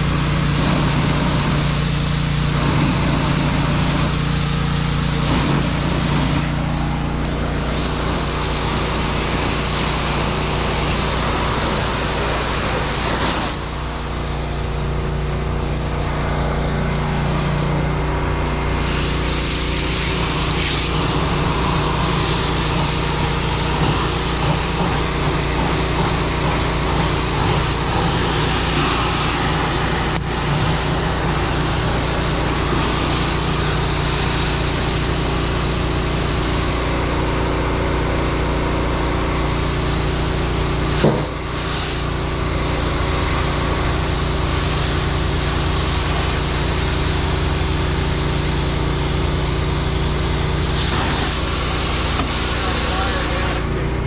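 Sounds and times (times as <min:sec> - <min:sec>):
hose spraying water: 0:00.0 - 0:53.9
engine running: 0:00.0 - 0:54.0.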